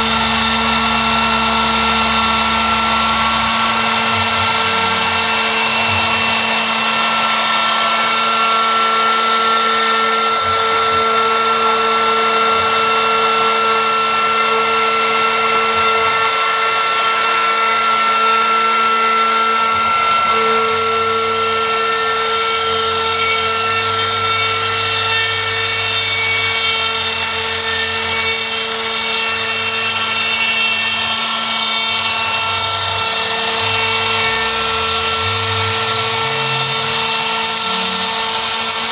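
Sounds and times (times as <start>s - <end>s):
router spindle high whine: 0.0s - 38.9s.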